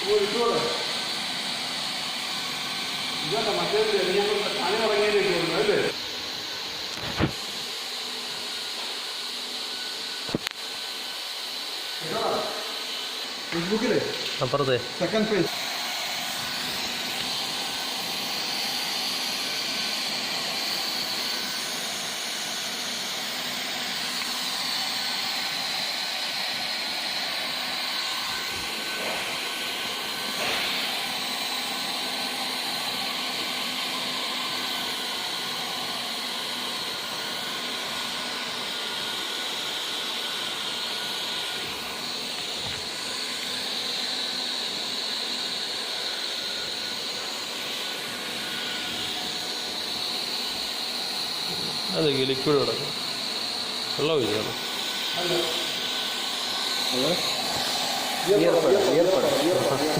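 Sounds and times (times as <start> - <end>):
hot air gun hissing: 0.0 - 59.9.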